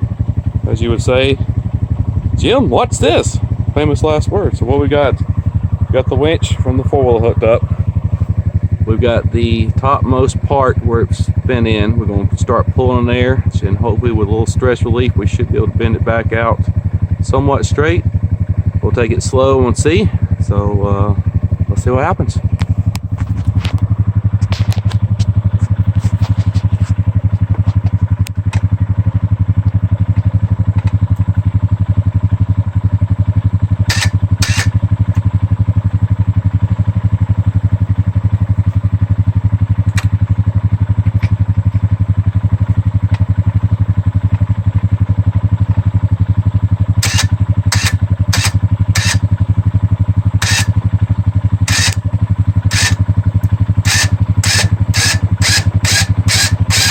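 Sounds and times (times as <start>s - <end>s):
atv engine idling: 0.0s - 56.9s.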